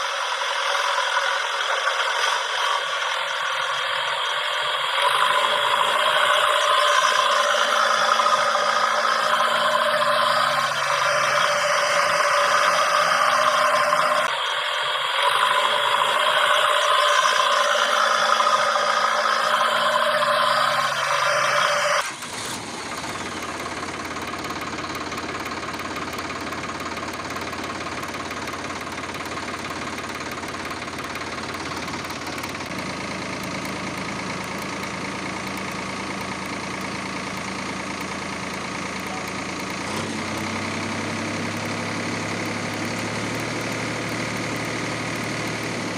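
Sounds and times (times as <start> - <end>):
engine idling: 0.0 - 45.9
toy motor whirring and clattering: 4.7 - 14.3, 15.2 - 45.9.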